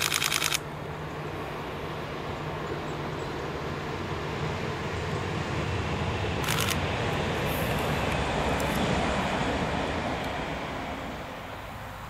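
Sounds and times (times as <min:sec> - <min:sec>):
electric train running past: 0:00.0 - 0:12.0.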